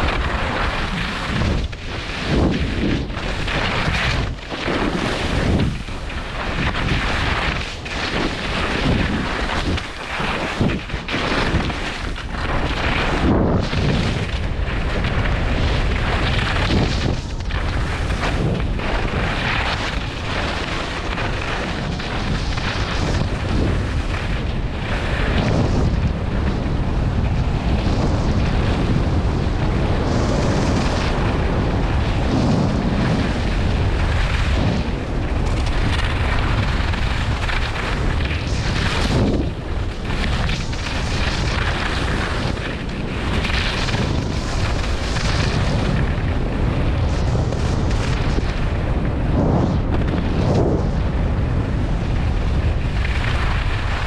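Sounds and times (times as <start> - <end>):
skis scraping on snow: 0.0 - 54.0
wind buffeting microphone: 0.0 - 54.0.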